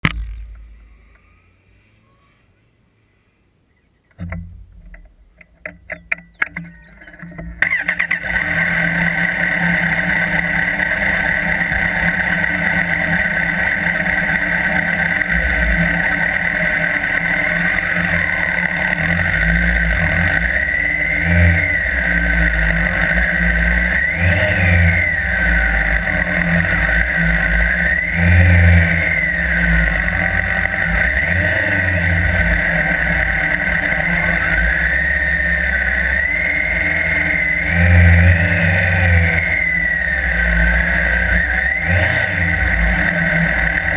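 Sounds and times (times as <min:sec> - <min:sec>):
motorcycle engine revving: 0:04.1 - 0:43.9.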